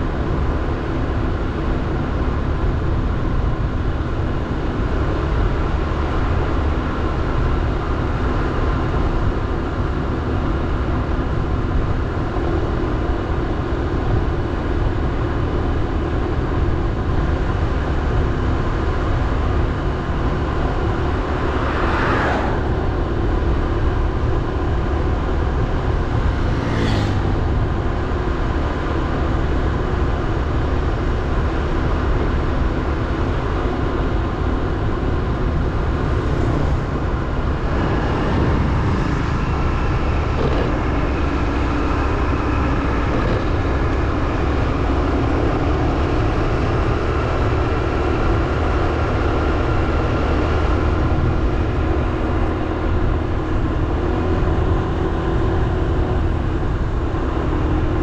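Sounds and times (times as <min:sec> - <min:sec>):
road and wind rumble: 0:00.0 - 0:58.0.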